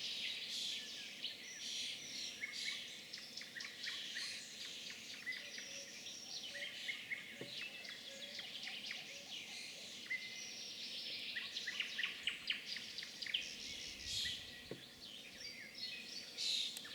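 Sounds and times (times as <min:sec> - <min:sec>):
small birds chirping: 0:00.7 - 0:16.9.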